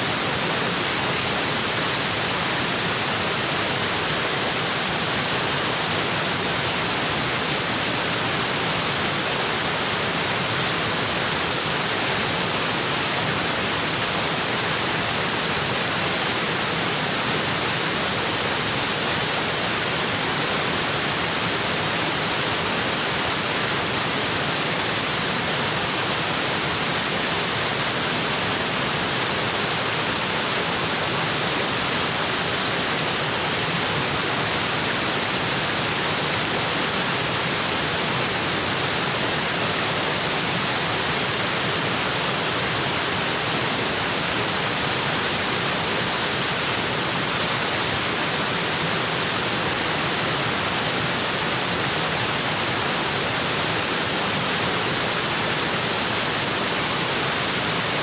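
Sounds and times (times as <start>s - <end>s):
waterfall onto rocks: 0.0s - 58.0s.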